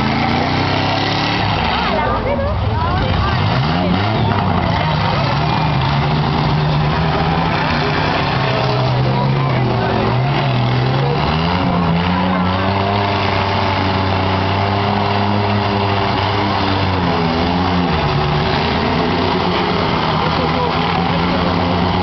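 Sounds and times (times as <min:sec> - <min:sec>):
din of engines: 0:00.0 - 0:22.0
truck engine revving: 0:00.0 - 0:22.0.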